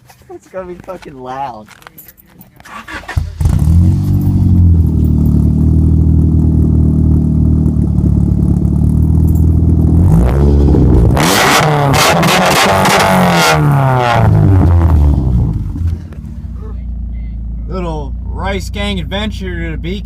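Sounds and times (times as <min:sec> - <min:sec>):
car engine starting and idling: 0:00.0 - 0:20.0.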